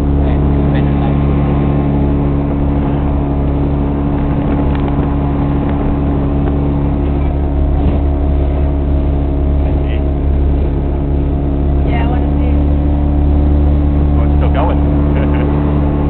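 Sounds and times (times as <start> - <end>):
speedboat engine droning: 0.0 - 16.0.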